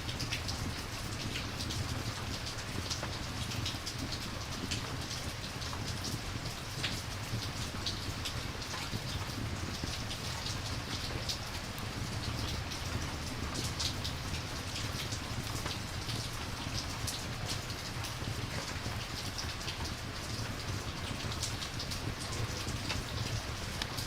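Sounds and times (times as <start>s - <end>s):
campfire crackles: 0.0s - 24.0s
rain falling: 0.0s - 24.0s.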